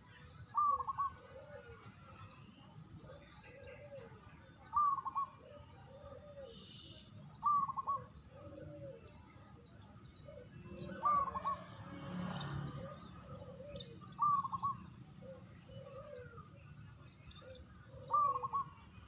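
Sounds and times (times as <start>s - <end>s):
dove cooing: 0.5s - 18.9s.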